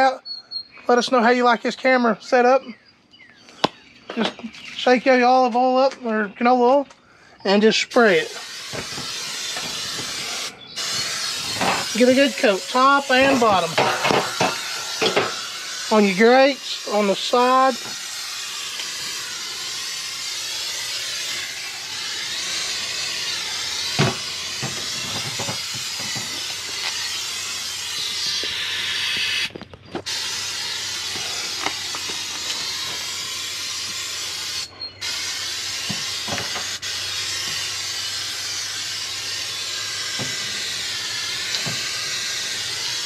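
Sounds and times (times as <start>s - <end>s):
aerosol can spraying: 7.6s - 43.0s.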